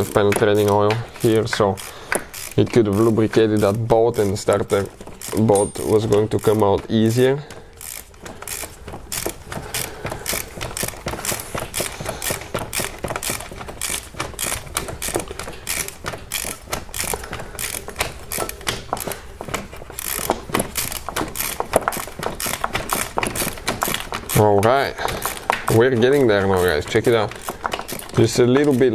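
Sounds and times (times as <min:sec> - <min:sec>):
socket ratchet clicking: 0:00.0 - 0:28.9.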